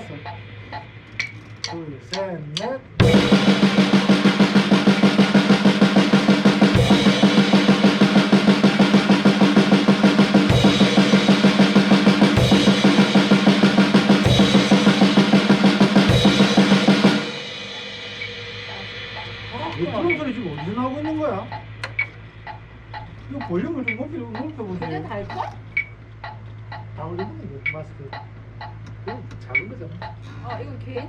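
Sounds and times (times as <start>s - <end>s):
drum kit playing fast rhythm: 0.0s - 29.1s.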